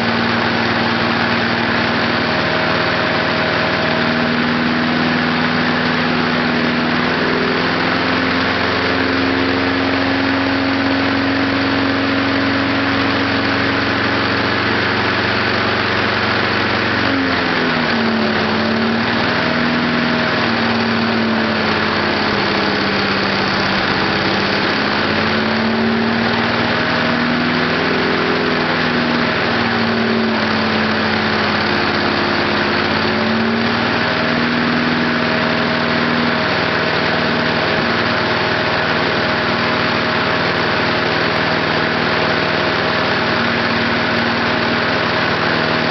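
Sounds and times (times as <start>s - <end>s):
lawnmower engine running: 0.0s - 45.9s.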